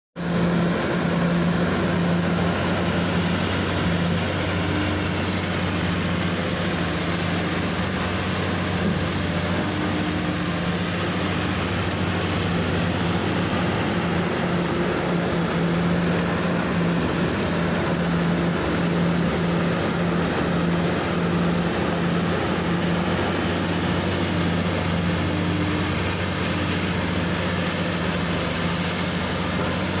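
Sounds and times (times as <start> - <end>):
heavy diesel engine droning: 0.2 - 30.0.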